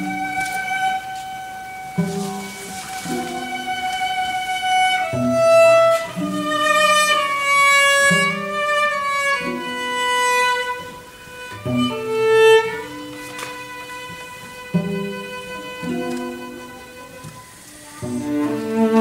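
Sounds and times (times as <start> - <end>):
high sustained cello melody: 0.0 - 19.0
low cello notes: 0.0 - 19.0.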